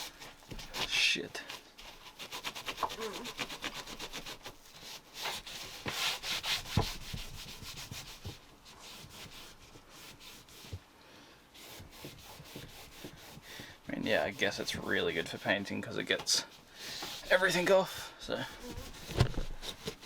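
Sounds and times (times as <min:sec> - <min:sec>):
wipe scrubbing a cupboard surface: 0:00.0 - 0:10.8, 0:11.5 - 0:20.0.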